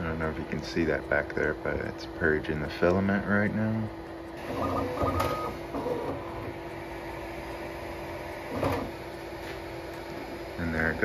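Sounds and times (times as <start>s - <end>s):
fan hum: 0.0s - 11.0s
printer motors whirring: 0.0s - 11.0s.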